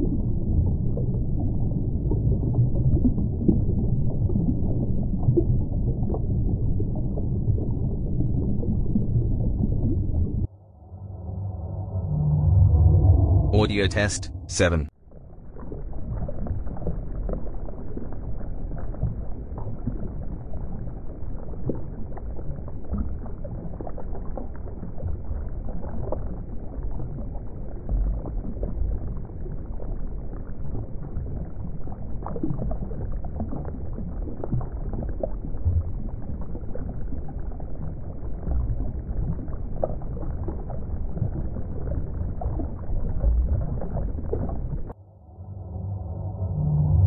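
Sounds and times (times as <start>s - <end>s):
small underwater crackles and pops: 0.0s - 10.5s, 15.5s - 45.0s
underwater rumble of water: 0.0s - 47.0s.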